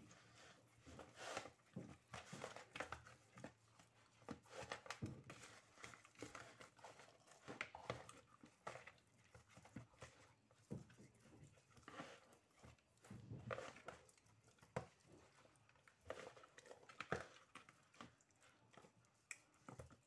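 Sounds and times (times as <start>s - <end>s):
hands rubbing wet fish: 0.0s - 20.0s.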